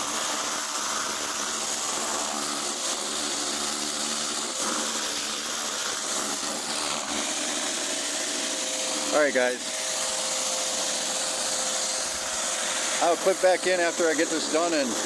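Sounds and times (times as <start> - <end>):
high-pressure water jet hissing: 0.0 - 15.0
pressure washer motor humming: 0.0 - 15.0.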